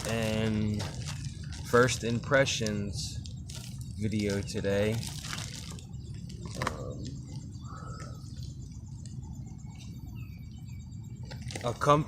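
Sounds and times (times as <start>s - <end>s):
faint bird chirps: 0.0s - 12.0s
low background noise: 0.0s - 12.0s.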